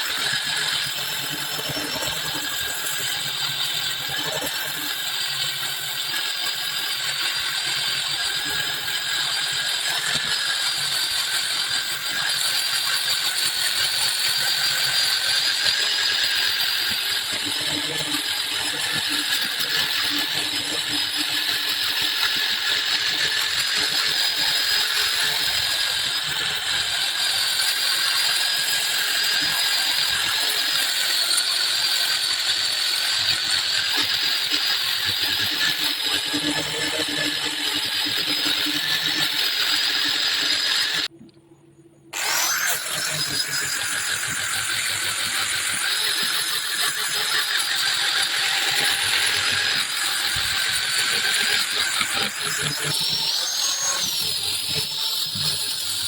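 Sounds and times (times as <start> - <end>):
power tool whining on wood: 0.0 - 41.1, 42.1 - 56.0.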